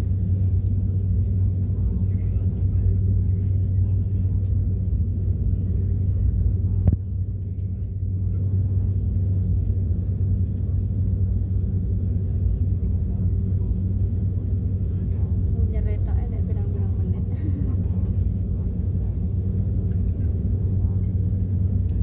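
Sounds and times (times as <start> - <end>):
airliner cabin drone and rumble: 0.0 - 22.0.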